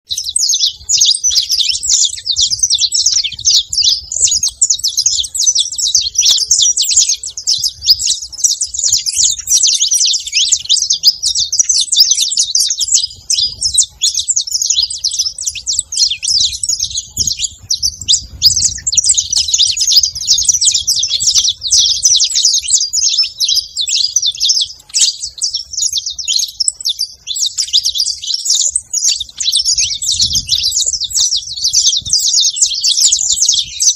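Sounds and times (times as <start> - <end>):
finches chirping: 0.1 - 33.9.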